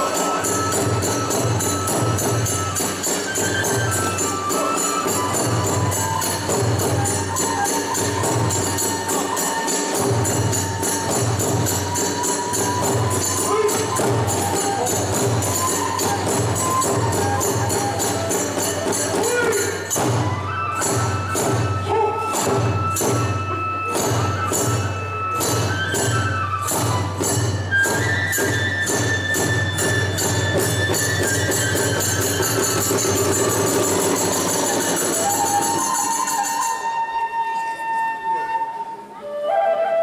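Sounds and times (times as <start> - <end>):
drums: 0.0 - 36.7
small hand cymbals: 0.0 - 37.8
bamboo flute: 0.0 - 40.0.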